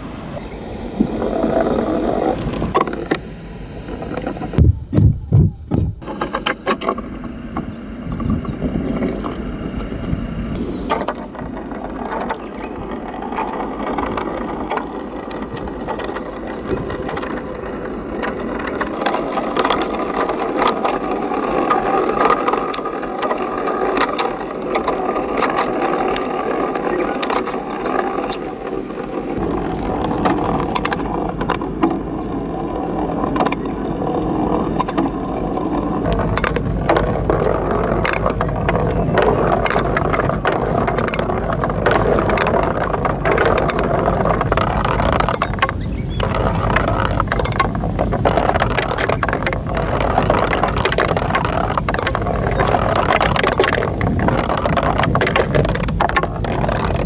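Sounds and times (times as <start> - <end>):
ball rolling along plastic channels: 0.0 - 4.6, 6.0 - 57.0.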